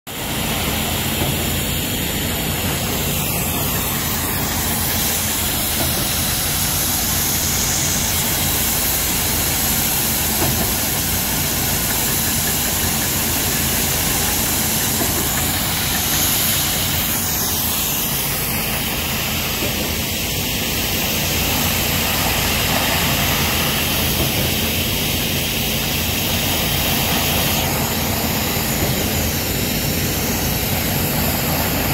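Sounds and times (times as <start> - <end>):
compressed air spraying concrete: 0.1 - 31.9.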